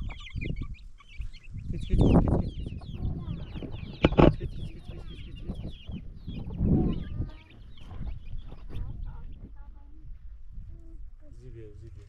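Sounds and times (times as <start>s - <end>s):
hen clucking: 0.0s - 11.4s
chicks peeping: 0.0s - 12.0s.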